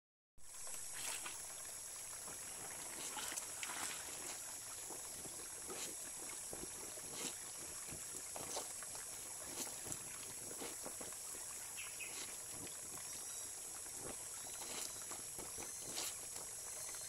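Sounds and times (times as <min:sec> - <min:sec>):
stream running over stones: 0:00.4 - 0:17.0
clothes splashing and sloshing: 0:00.8 - 0:01.5, 0:02.2 - 0:13.0, 0:13.7 - 0:16.6.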